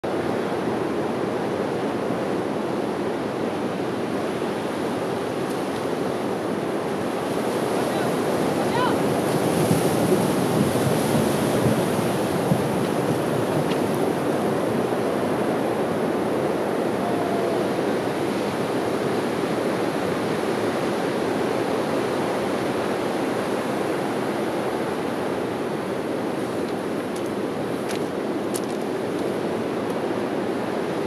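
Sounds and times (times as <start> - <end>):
ocean surf breaking on beach: 0.0 - 31.0.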